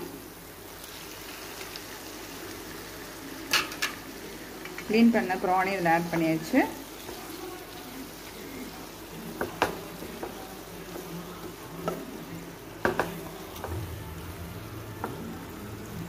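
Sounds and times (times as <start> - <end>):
prawns sizzling in a pan: 0.0 - 16.0.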